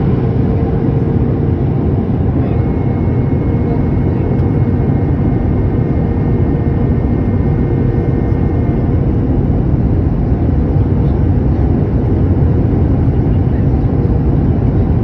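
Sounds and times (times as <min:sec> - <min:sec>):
jet engines and rushing air: 0:00.0 - 0:15.0.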